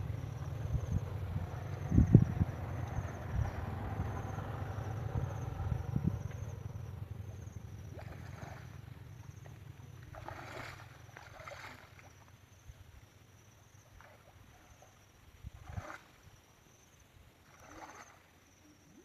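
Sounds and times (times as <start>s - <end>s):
insects trilling faintly: 0.0s - 19.0s
water splashing and sloshing: 0.0s - 19.0s.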